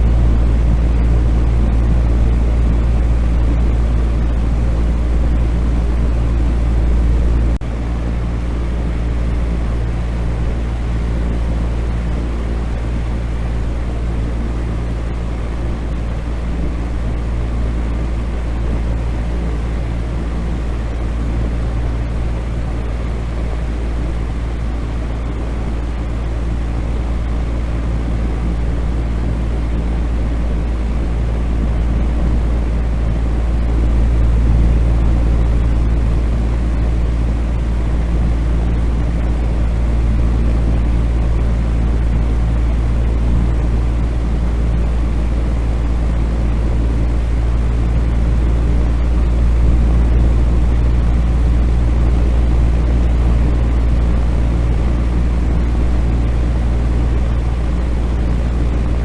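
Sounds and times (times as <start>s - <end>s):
electric fan running: 0.0s - 59.0s.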